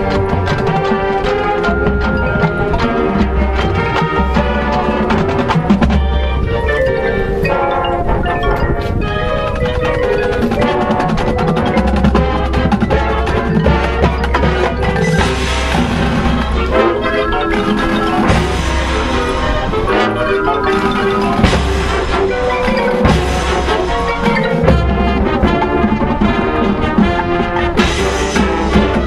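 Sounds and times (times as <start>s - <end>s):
brass and winds playing: 0.0s - 29.0s
mallet instruments: 0.0s - 29.0s
percussion strikes: 0.0s - 29.0s.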